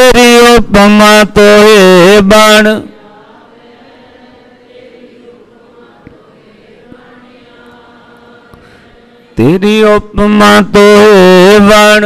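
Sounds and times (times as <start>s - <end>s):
congregation singing in unison: 1.0s - 12.0s.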